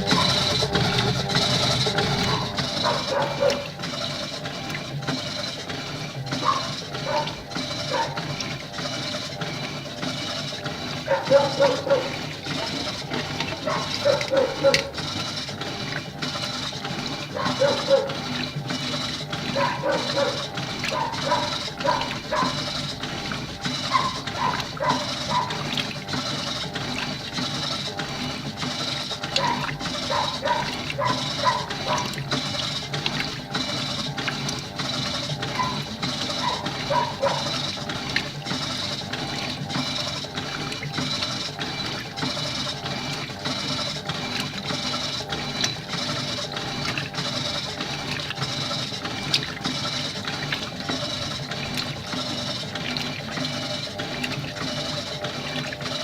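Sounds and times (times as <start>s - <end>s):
water churning in washing machine: 0.0s - 56.0s.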